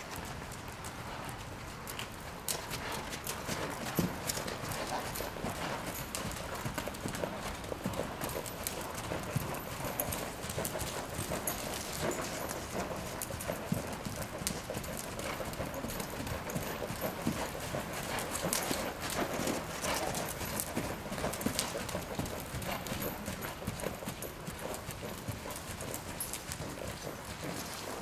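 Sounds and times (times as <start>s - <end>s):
hoofbeats on sand: 0.0s - 28.0s.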